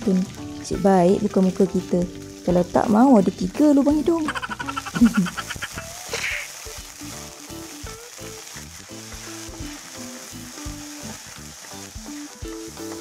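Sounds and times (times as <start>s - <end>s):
food sizzling in hot oil: 0.0s - 13.0s
light background music: 0.0s - 13.0s.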